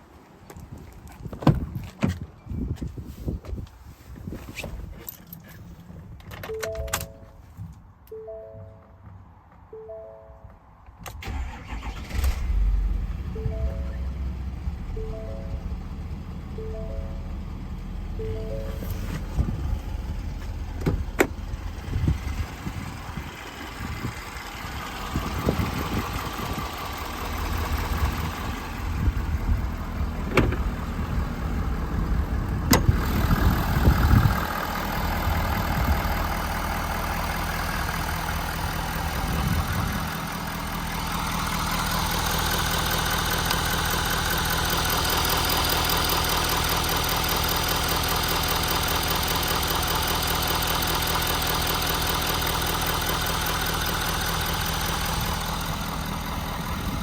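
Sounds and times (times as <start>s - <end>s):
diesel truck engine running: 11.2s - 57.0s.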